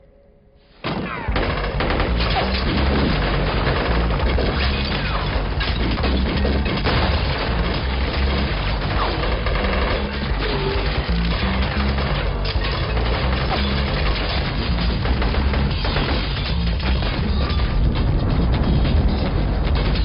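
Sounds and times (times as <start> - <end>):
rapid gunfire: 0.8 - 20.0.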